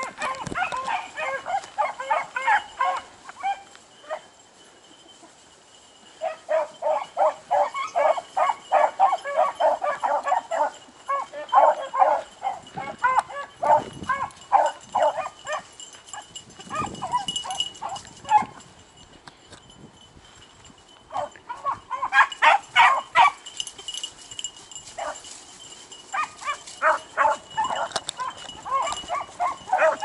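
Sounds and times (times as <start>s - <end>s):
hunting dogs baying: 0.0s - 18.7s, 21.1s - 30.0s.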